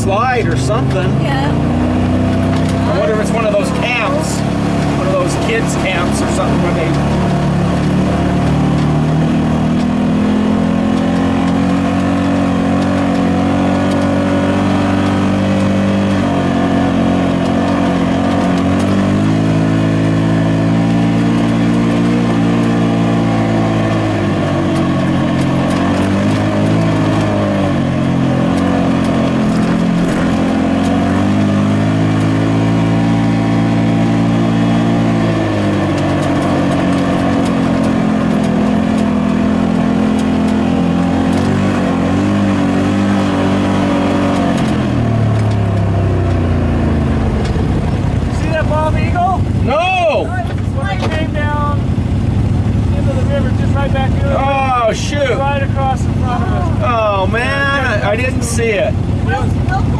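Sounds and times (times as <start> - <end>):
utility vehicle engine running: 0.0 - 59.9.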